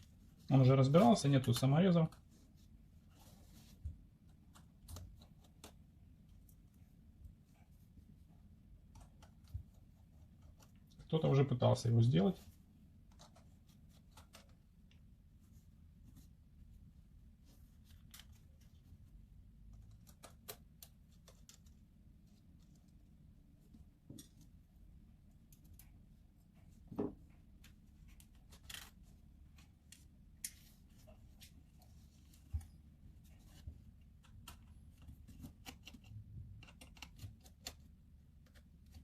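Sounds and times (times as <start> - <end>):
low room hum: 0.0 - 39.0.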